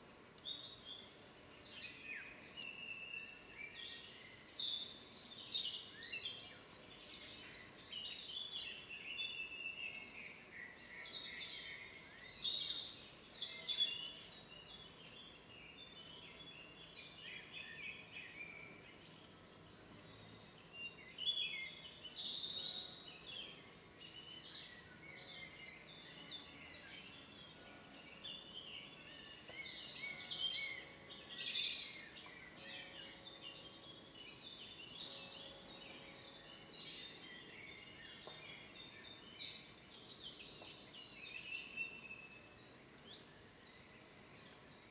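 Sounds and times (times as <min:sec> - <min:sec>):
songbirds chirping and whistling: 0:00.0 - 0:44.9.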